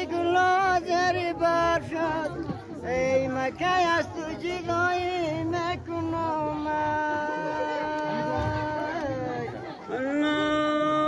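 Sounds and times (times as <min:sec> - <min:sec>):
voices singing folk song: 0:00.0 - 0:11.0.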